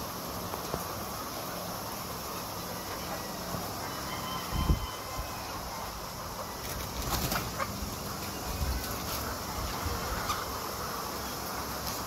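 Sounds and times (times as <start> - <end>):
hens rustling: 0.0 - 12.0
steady background hiss: 0.0 - 12.0
hens clucking: 0.6 - 12.0.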